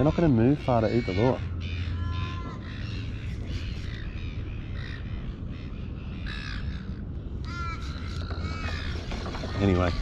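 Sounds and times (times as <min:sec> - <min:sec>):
bird calling: 0:00.0 - 0:10.0
steady low rumble: 0:00.0 - 0:10.0.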